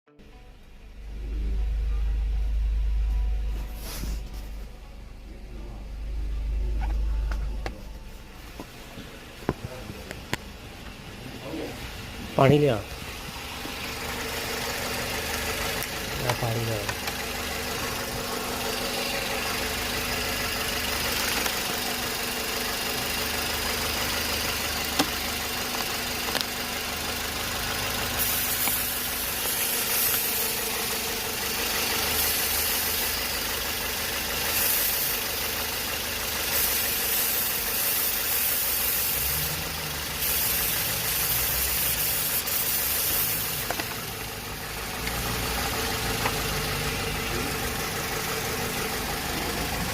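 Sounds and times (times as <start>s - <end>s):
car engine idling: 0.1s - 49.9s.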